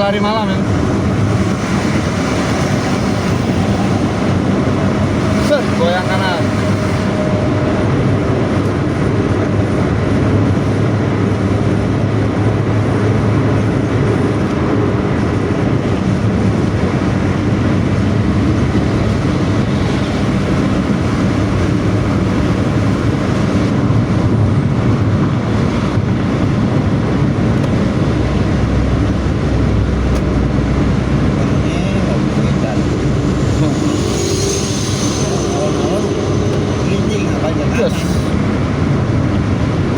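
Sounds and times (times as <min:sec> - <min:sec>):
bus diesel engine growling: 0:00.0 - 0:39.9.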